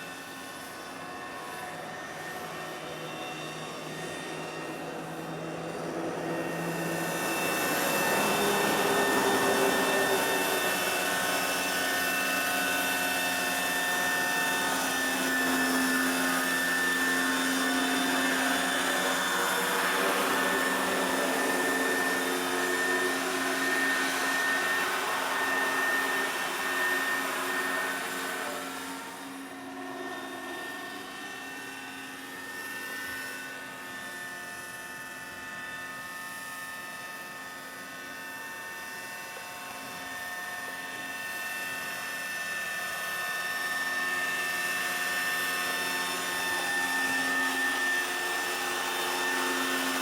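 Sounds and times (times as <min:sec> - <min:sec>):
model helicopter motor whine: 0:00.0 - 0:50.0.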